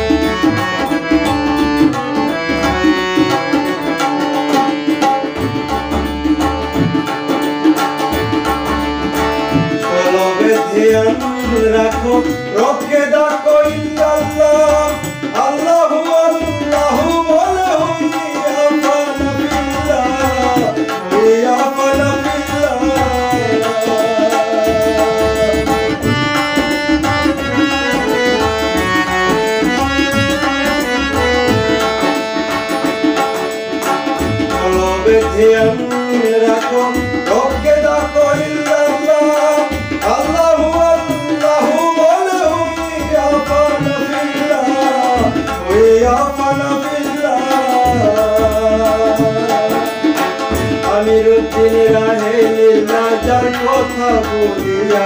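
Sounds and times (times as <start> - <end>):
harmonium chords: 0.0 - 55.0
man singing: 0.0 - 55.0
tabla drums: 0.0 - 55.0.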